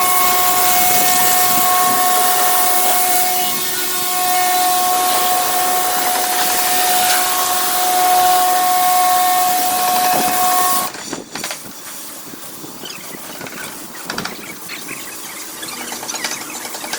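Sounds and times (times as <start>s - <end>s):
car wash machine rushing hiss: 0.0s - 15.8s
steady high whine: 0.0s - 16.9s.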